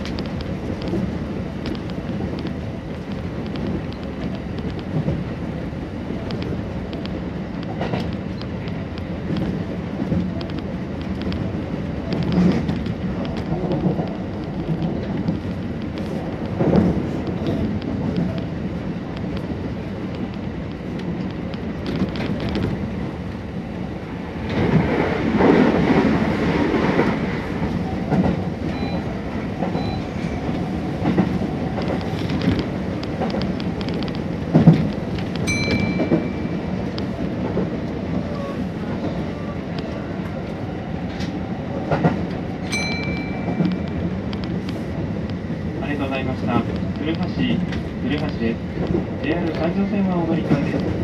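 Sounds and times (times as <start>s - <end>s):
passing train rush: 0.0s - 51.0s
train wheels rumbling on rail: 0.0s - 51.0s.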